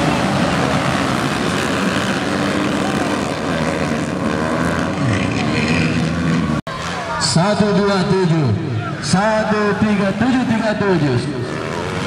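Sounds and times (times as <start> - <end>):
dirt bikes revving hard: 0.0 - 12.0.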